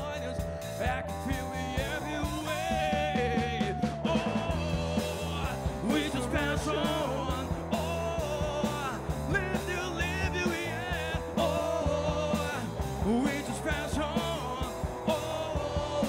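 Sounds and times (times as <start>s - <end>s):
man singing lead vocal: 0.0s - 16.0s
rock band playing live: 0.0s - 16.0s.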